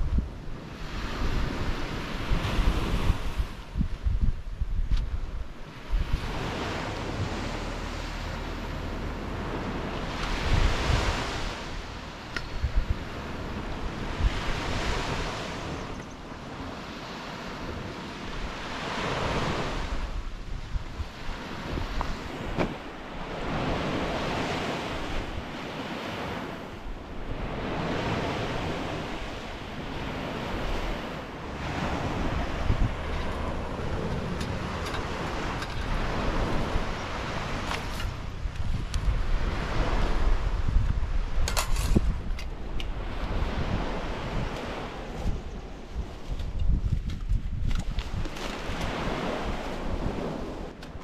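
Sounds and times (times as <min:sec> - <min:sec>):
surf breaking on beach: 0:00.0 - 0:51.0
wind buffeting microphone: 0:00.0 - 0:51.0.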